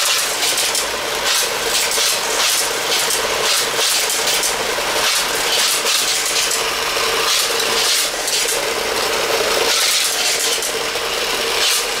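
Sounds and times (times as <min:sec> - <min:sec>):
toy game mechanical hum: 0:00.0 - 0:12.0.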